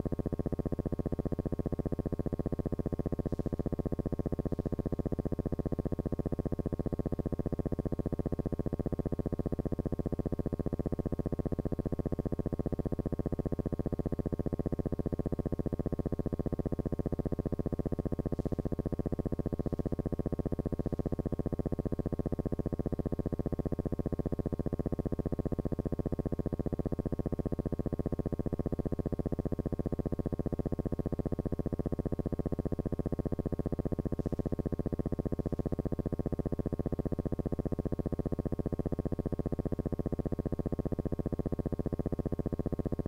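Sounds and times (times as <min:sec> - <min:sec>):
low pulsing electrical buzz: 0:00.0 - 0:43.0.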